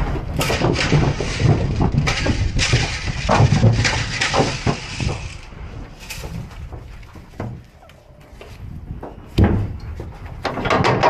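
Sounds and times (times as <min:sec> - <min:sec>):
hooves clattering on metal trailer: 0:00.0 - 0:11.0.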